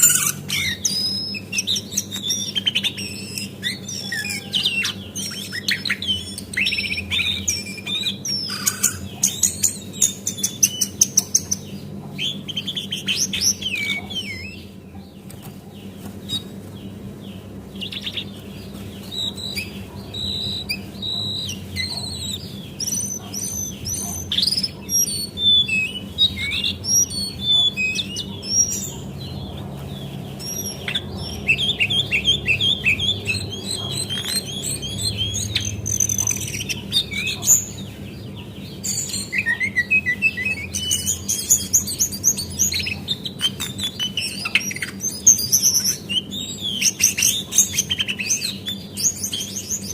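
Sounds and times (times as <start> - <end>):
bird chirps trills and whistles: 0.0 - 49.9.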